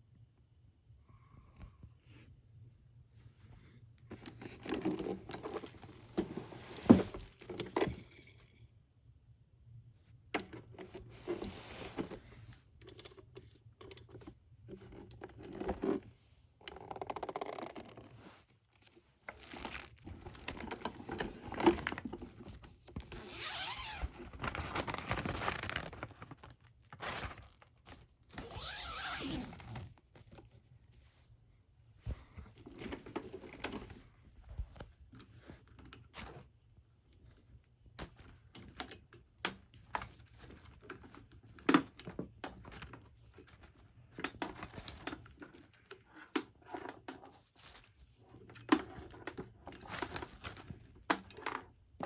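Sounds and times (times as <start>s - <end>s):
rustling and scraping of objects: 3.1s - 8.4s, 10.4s - 13.3s, 14.0s - 52.0s.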